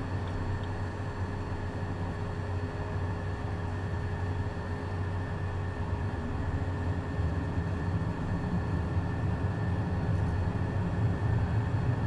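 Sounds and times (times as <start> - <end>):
jet engine rumble: 0.0 - 12.0.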